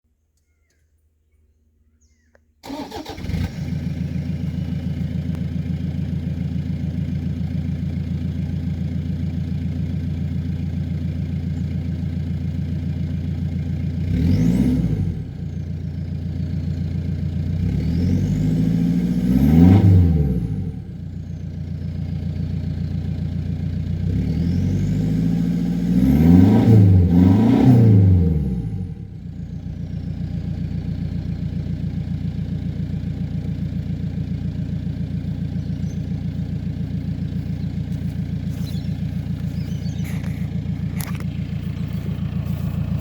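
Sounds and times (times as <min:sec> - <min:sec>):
diesel engine starting and idling: 0:02.6 - 0:43.0
engine revving: 0:02.6 - 0:43.0.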